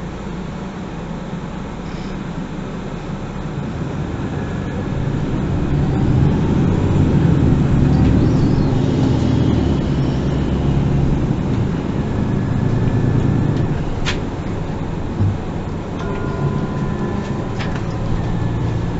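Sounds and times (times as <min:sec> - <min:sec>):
bus diesel engine running: 0:00.0 - 0:18.9.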